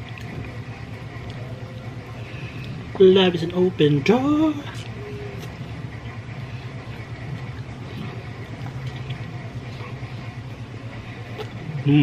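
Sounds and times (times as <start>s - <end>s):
man eating with wet smacks: 0.0s - 3.0s, 4.6s - 12.0s
low hum: 0.0s - 12.0s.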